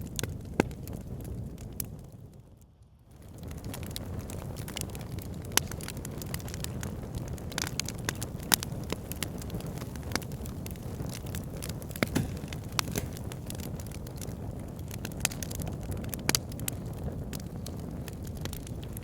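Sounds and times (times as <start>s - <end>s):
wood fire crackling: 3.1s - 19.0s.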